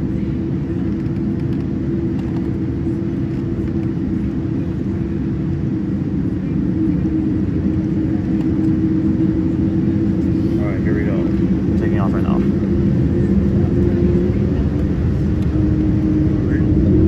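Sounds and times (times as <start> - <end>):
airplane cabin engine rumble: 0.0 - 17.0
steady hum: 0.0 - 17.0.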